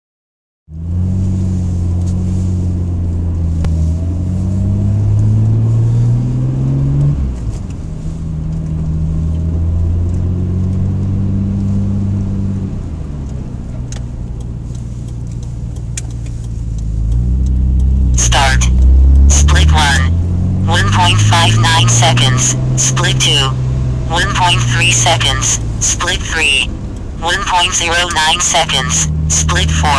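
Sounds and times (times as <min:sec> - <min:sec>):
car engine accelerating: 0:00.7 - 0:29.9.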